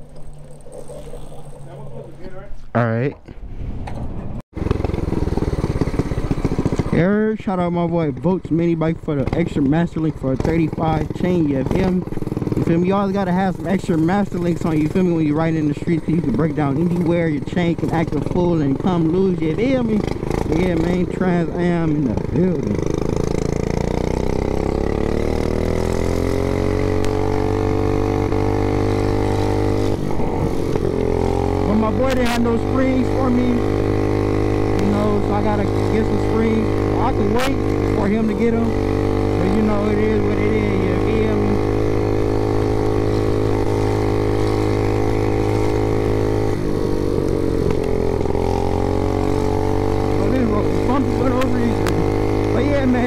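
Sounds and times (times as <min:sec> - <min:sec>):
mini bike engine under throttle: 0:00.0 - 0:02.1, 0:04.6 - 0:53.0.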